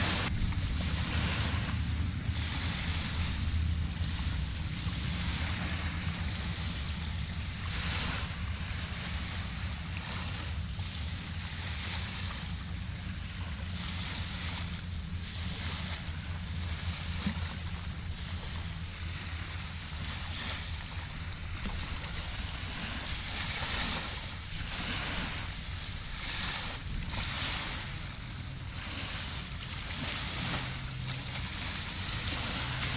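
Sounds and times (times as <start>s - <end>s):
low boat engine hum: 0.0s - 32.9s
waves washing against bank: 0.0s - 32.9s.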